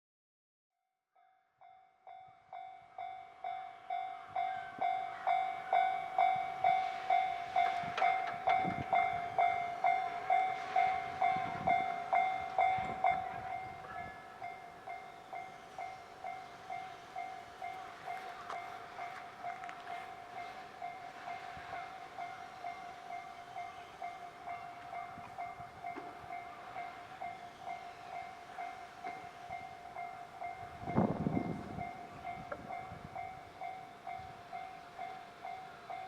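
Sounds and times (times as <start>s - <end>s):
level crossing warning bell dinging: 1.6s - 36.0s.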